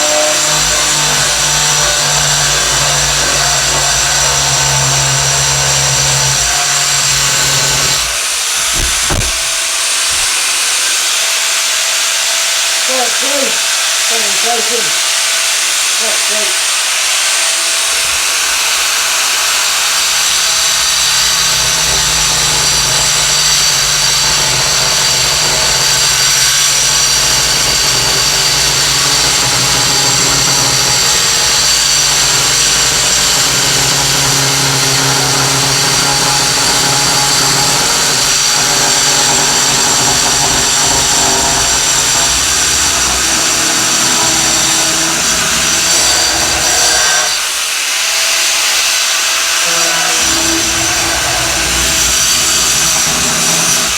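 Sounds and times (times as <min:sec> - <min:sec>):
electric grinder grinding metal: 0:00.0 - 0:53.9.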